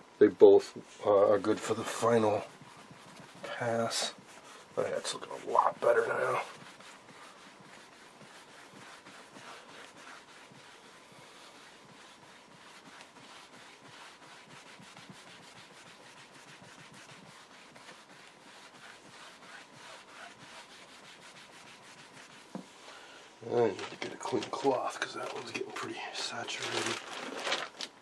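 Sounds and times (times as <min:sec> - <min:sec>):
cloth rubbing plastic screen: 0:01.1 - 0:22.8, 0:23.4 - 0:28.0.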